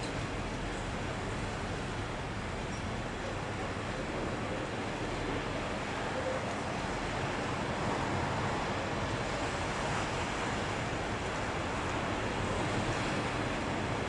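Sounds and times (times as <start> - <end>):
ocean surf: 0.0 - 14.0.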